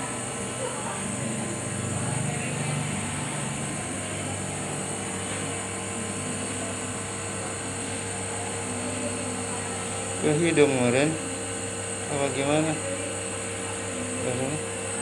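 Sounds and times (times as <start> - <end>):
compressor motor humming: 0.0 - 15.0.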